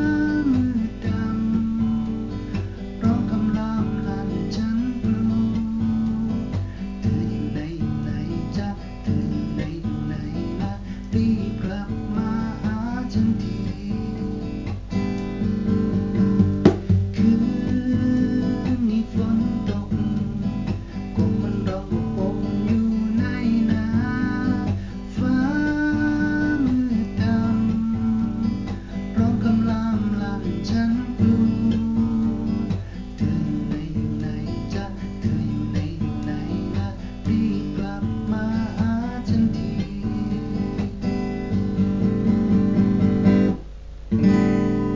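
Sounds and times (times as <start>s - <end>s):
acoustic guitar melody: 0.0s - 44.9s.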